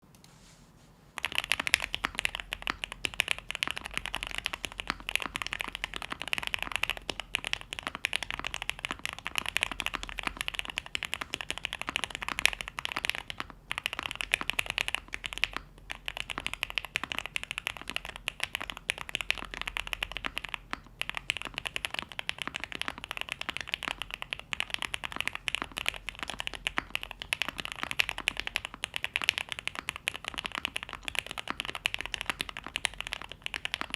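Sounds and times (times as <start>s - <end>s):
mechanical keyboard typing: 1.2s - 33.9s.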